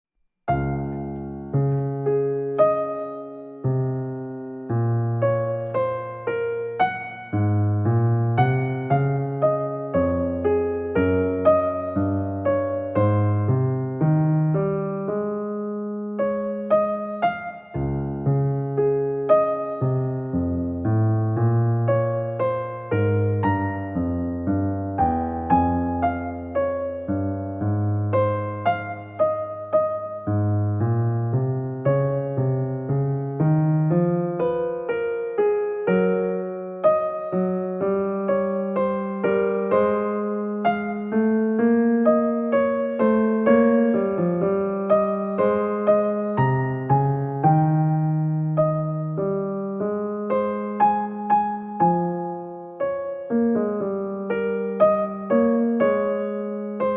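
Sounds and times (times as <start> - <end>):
piano music: 0.5 - 56.9.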